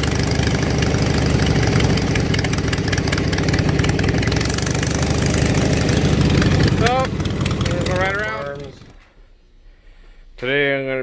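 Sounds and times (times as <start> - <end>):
lawn mower engine running: 0.0 - 9.1.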